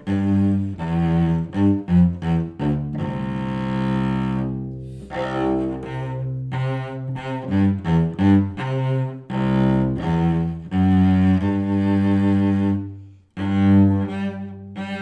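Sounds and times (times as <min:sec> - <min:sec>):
bowed cello waltz: 0:00.0 - 0:15.0.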